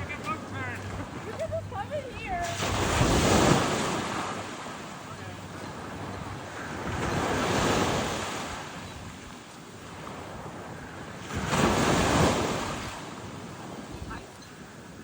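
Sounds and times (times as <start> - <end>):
waves washing onto beach: 0.0 - 15.0
wind buffeting microphone: 0.0 - 15.0.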